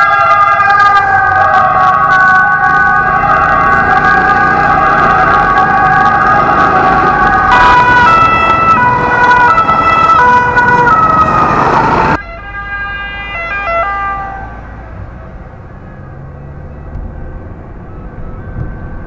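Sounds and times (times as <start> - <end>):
traffic noise: 0.0 - 19.0
two-tone emergency siren: 0.0 - 19.0.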